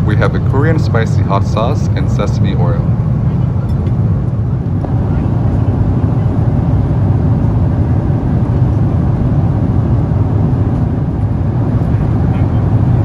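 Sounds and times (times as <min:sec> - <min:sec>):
aircraft cabin airflow: 0:00.0 - 0:13.0
jet engine noise: 0:00.0 - 0:13.0.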